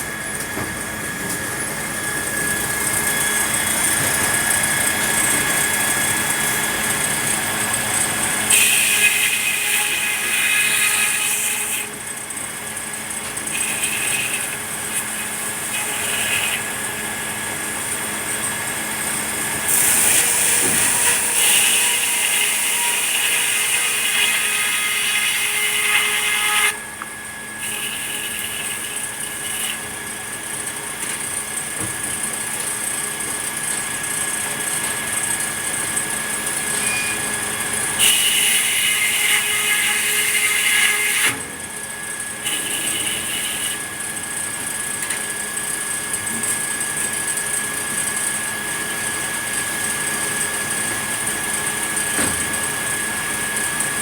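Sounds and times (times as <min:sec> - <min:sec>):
saw cutting wood: 0:00.0 - 0:54.0
sawmill machinery humming: 0:00.0 - 0:54.0.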